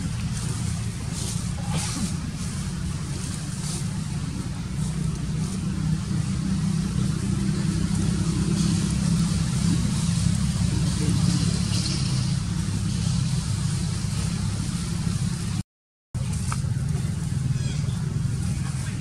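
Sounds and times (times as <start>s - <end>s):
low motor hum: 0.0s - 15.6s, 16.2s - 19.0s.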